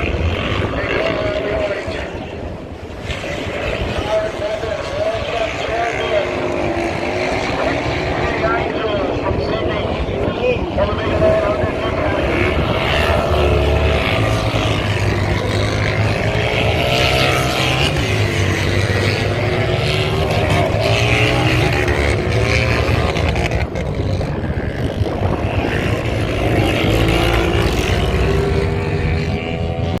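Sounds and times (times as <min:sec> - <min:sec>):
motorcycle engine revving: 0:02.6 - 0:09.8, 0:10.7 - 0:30.0.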